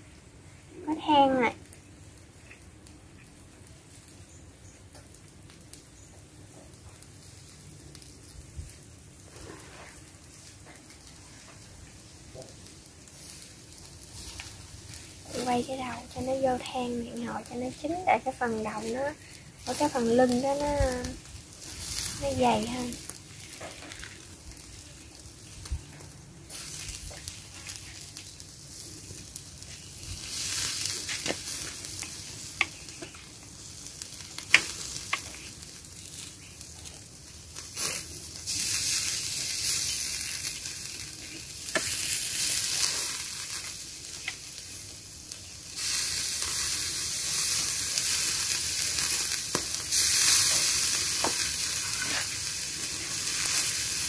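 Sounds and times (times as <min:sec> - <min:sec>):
fish sizzling on a grill: 0:00.0 - 0:54.0
charcoal crackles and pops: 0:00.1 - 0:54.0.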